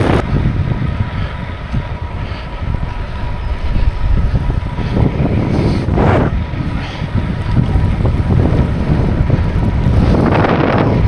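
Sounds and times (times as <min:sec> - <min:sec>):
bicycle road rumble: 0:00.0 - 0:11.0
wind buffeting microphone: 0:00.0 - 0:11.0.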